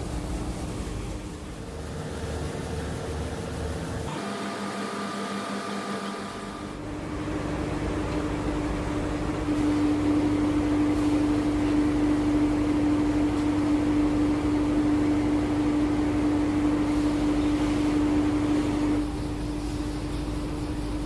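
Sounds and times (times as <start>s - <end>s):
boat engine humming and rumbling: 0.0s - 21.0s.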